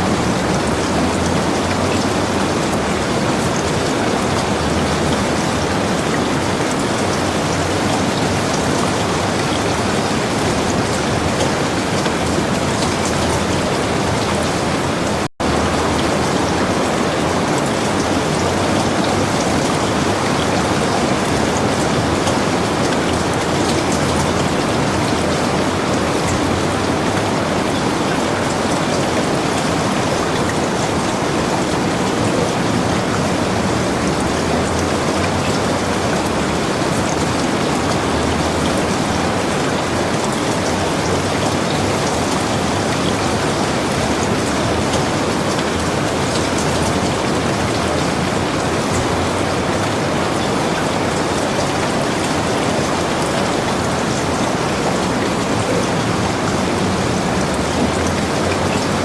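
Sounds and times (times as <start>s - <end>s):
heavy rain pattering: 0.0s - 59.0s.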